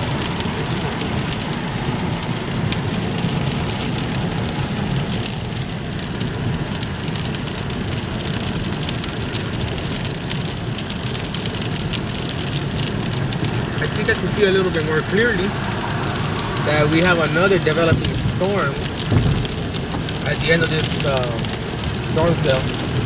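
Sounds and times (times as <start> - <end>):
car road noise: 0.0 - 23.0
hard rain on a car: 0.0 - 23.0.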